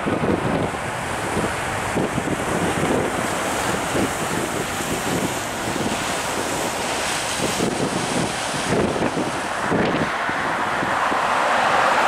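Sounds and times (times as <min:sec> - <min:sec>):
jet engines at take-off: 0:00.0 - 0:12.0
wind buffeting microphone: 0:00.0 - 0:12.0.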